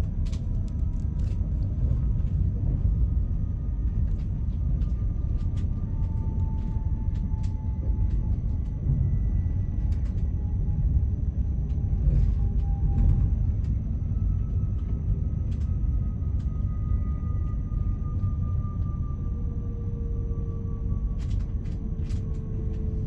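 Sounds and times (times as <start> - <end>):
train running gear rumble: 0.0 - 23.0.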